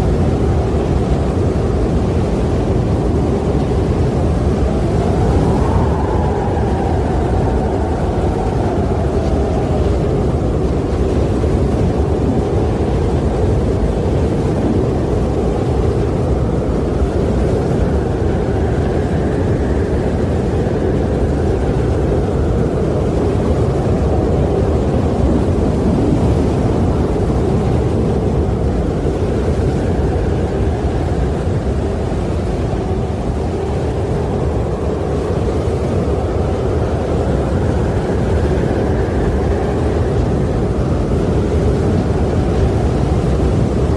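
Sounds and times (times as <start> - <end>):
faint howling tone: 0.0 - 43.9
strong wind blowing: 0.0 - 43.9.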